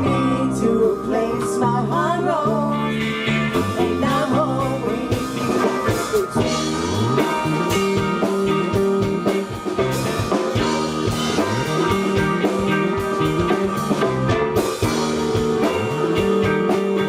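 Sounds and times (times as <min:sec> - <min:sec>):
bass line: 0:00.0 - 0:17.0
guitar: 0:00.0 - 0:17.0
drum kit beat: 0:03.0 - 0:17.0.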